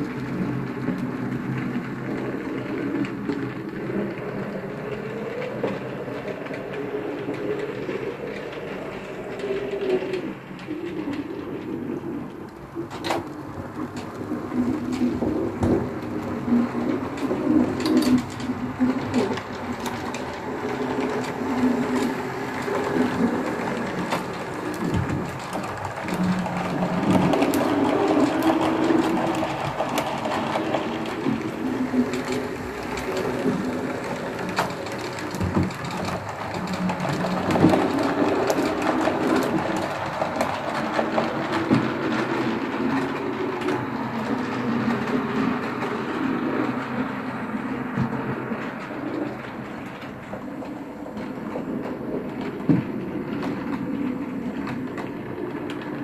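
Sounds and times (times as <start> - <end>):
model train motor hum: 0.0 - 56.0
wheels clicking over rail joints: 0.0 - 56.0.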